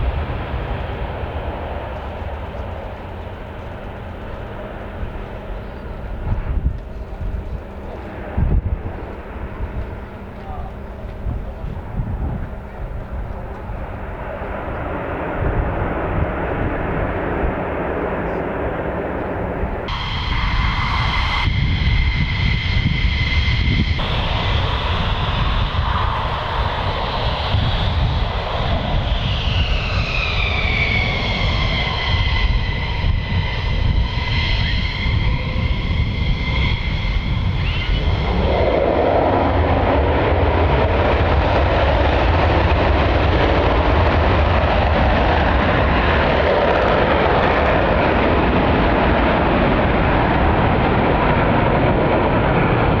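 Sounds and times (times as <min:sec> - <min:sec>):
jet engine roar: 0:00.0 - 0:53.0
jet engine whine: 0:00.0 - 0:53.0
low rumble: 0:00.0 - 0:53.0.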